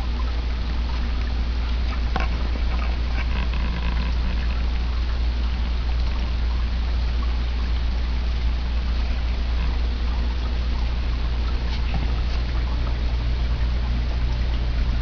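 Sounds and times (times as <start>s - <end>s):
steady low hum: 0.0s - 15.0s
water trickling down small waterfall: 0.0s - 15.0s.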